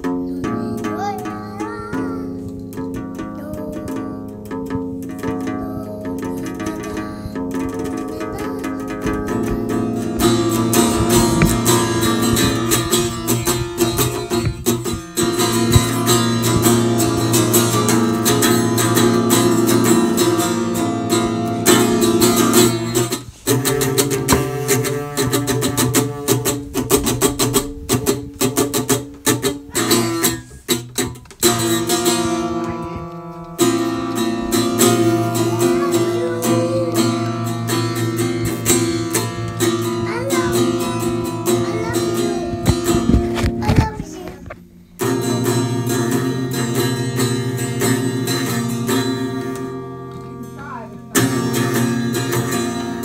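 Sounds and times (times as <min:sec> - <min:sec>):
strummed acoustic guitar music: 0:00.0 - 0:53.0.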